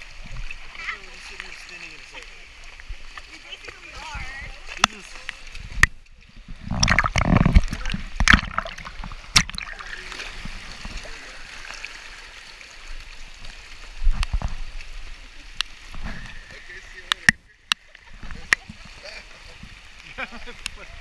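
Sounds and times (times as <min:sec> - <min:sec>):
river water splashing: 0:00.0 - 0:21.0
water rushing over rapids: 0:00.0 - 0:21.0.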